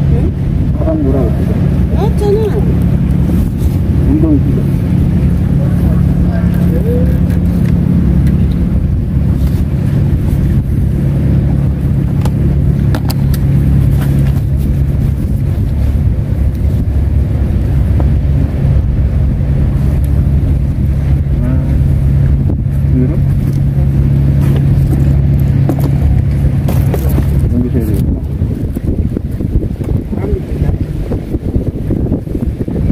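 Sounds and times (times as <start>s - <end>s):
loud low engine drone: 0.0s - 32.9s.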